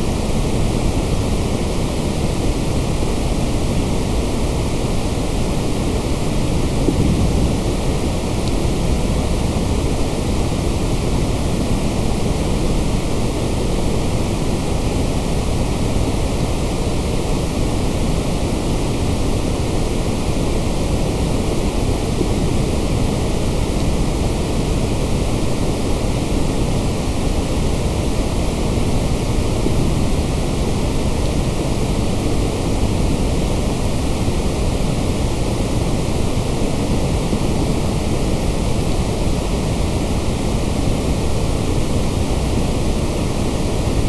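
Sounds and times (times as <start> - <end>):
white noise hiss: 0.0 - 44.0.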